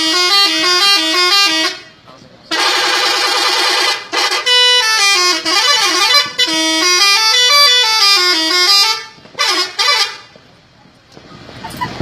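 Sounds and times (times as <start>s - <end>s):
musical horn playing tune: 0.0s - 10.3s.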